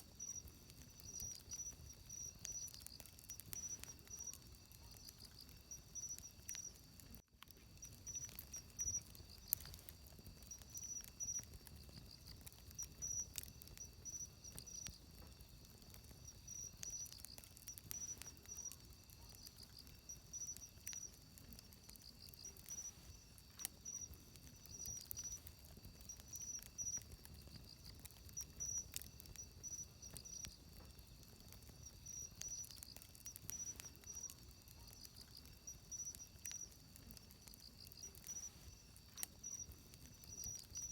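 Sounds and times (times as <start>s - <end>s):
insects trilling: 0.0s - 40.9s
sharp fire pops: 0.0s - 40.9s
wood fire crackling: 0.0s - 40.9s.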